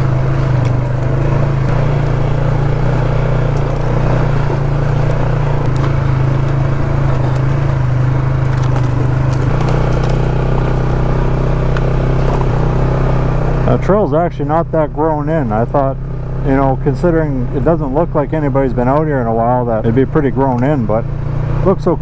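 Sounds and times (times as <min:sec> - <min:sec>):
quad bike engine running: 0:00.0 - 0:22.0.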